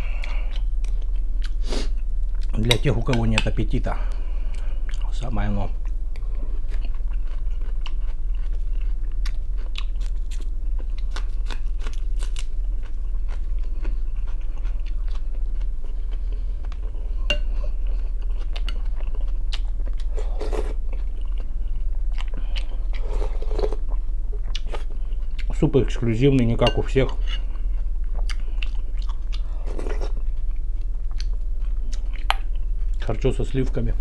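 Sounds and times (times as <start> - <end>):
person chewing crunchy food: 0.0 - 2.5, 5.8 - 25.6, 26.6 - 33.0
low steady hum: 0.0 - 34.0.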